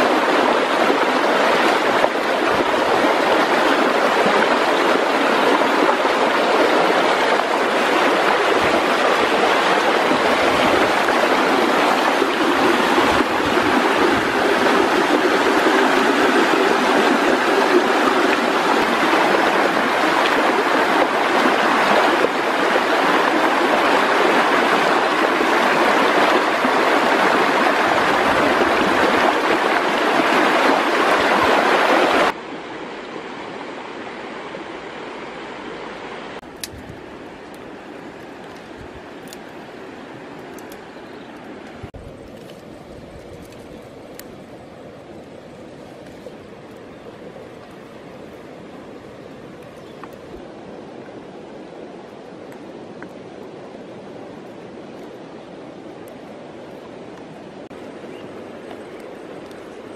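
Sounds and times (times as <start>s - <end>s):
river rushing over white water: 0.0s - 59.9s.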